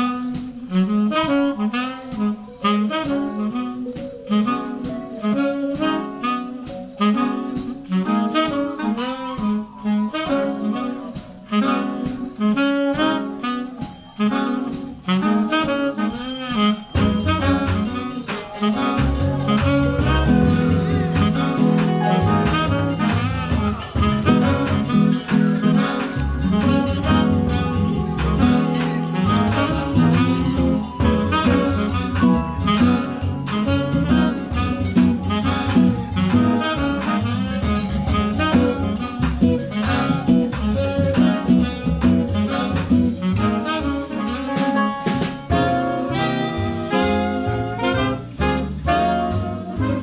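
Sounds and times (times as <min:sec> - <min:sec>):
drum kit beat: 0:00.0 - 0:50.0
saxophones playing melody: 0:00.0 - 0:50.0.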